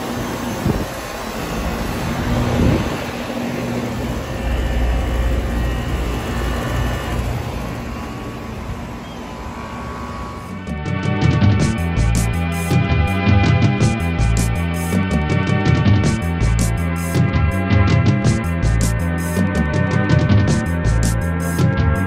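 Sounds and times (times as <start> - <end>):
air conditioner fan whoosh: 0.0 - 22.0
low compressor hum: 0.0 - 22.0.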